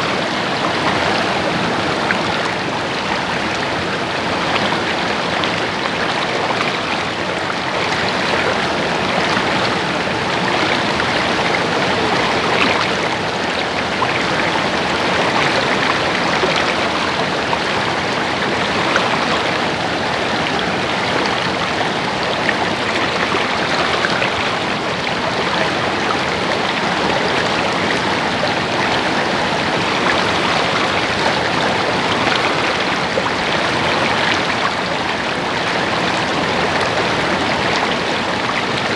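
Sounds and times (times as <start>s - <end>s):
stream water over rocks: 0.0s - 38.9s.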